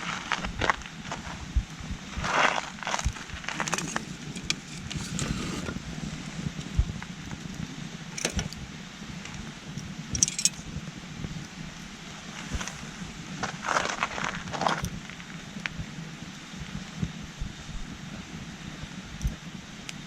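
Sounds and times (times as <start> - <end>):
campfire crackling and popping: 0.0 - 5.0, 5.7 - 17.2.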